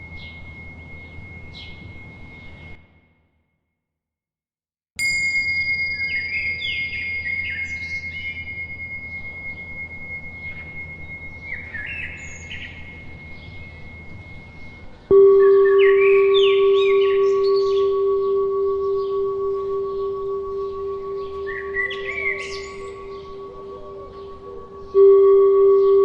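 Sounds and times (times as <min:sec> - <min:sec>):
birds chirping: 0:00.0 - 0:02.8, 0:05.9 - 0:26.0
small high-pitched bell ringing: 0:00.0 - 0:02.8, 0:05.0 - 0:26.0
low steady background noise: 0:05.0 - 0:26.0.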